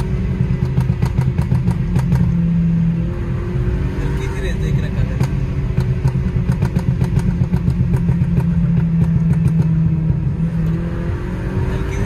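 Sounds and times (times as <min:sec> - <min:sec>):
car engine drone from inside cabin: 0:00.0 - 0:12.0.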